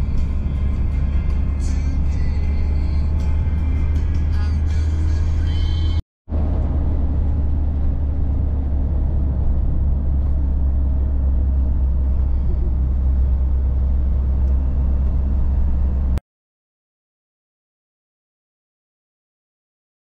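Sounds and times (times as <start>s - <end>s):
engine and road rumble: 0.0s - 16.2s.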